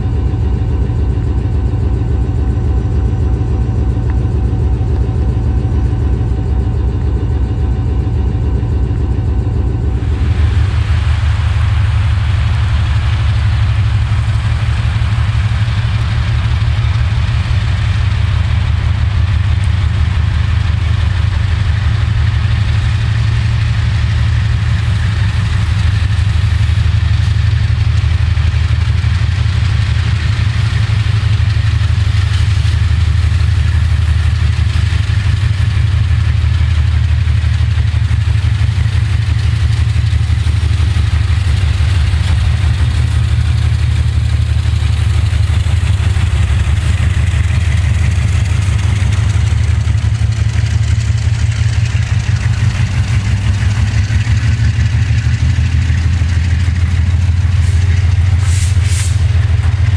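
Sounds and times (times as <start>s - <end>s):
diesel locomotive engine rumbling: 0.0s - 59.9s.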